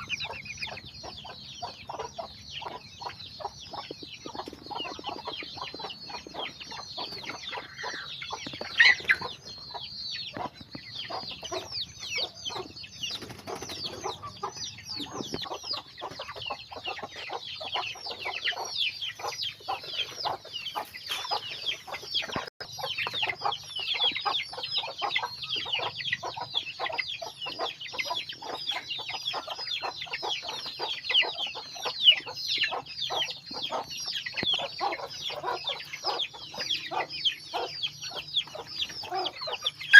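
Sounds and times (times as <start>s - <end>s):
chicks peeping: 0.0s - 39.9s
hens clucking: 0.0s - 39.9s
loud chicken calls: 0.0s - 39.9s.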